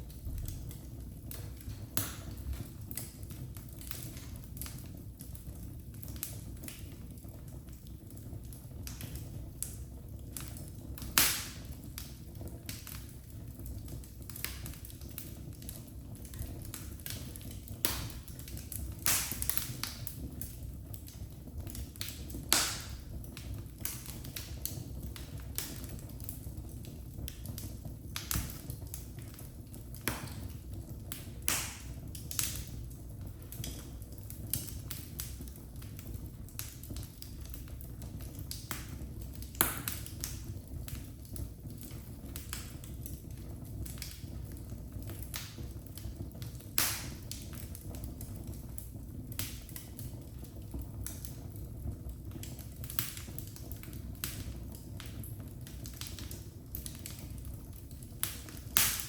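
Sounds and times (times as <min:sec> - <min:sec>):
fire popping and snapping: 0:00.0 - 0:59.0
wood fire crackling: 0:00.0 - 0:59.0.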